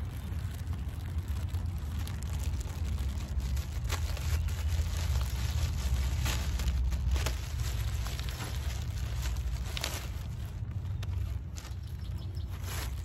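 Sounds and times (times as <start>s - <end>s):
plastic bag crinkling: 0.0s - 13.0s
steady low rumble: 0.0s - 13.0s.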